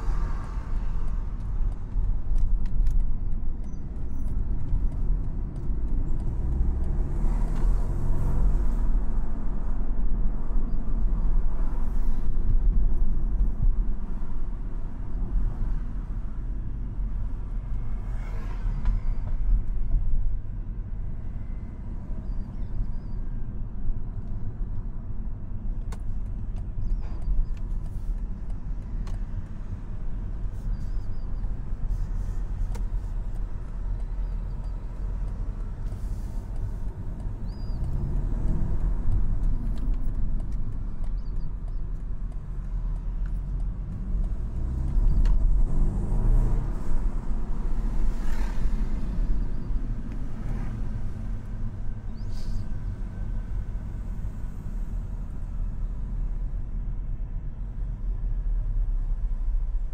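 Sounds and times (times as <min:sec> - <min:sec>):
car engine drone: 0:00.0 - 0:59.9
road rumble: 0:00.0 - 0:59.9.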